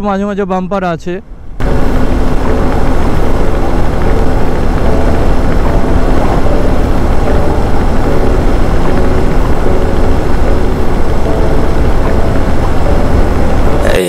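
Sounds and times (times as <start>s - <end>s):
motorcycle engine running: 1.3s - 13.8s.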